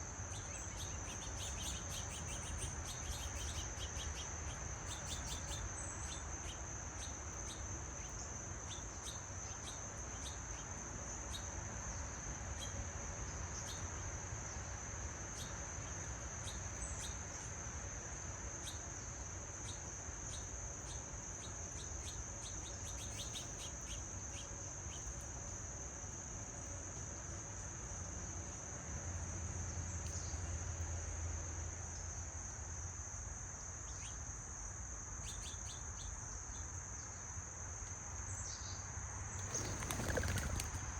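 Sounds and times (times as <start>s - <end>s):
insect chorus trilling: 0.1s - 12.8s, 15.3s - 28.7s, 29.4s - 40.9s.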